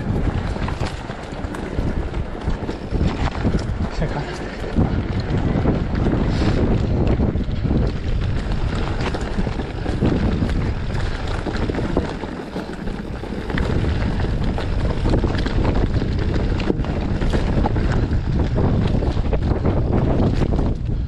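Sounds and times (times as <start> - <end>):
mountain bike rattling on dirt: 0.0 - 21.0
wind buffeting microphone: 0.0 - 21.0.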